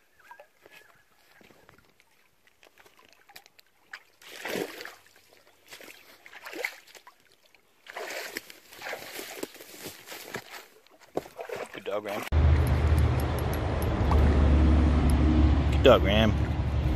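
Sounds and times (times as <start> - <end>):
water splashing and sloshing: 0.0 - 15.7.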